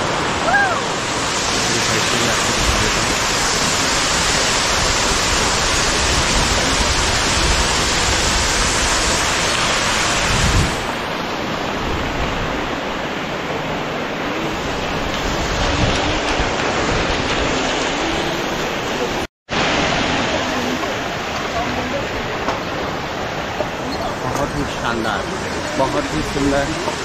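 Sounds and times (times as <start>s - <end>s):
stream rushing over boulders: 0.0s - 27.0s.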